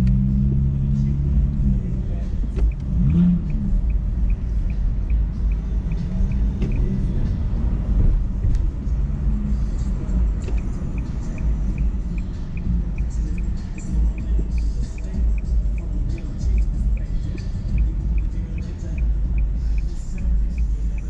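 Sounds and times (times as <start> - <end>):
car cabin rumble: 0.0 - 21.0
turn signal ticking: 0.0 - 21.0.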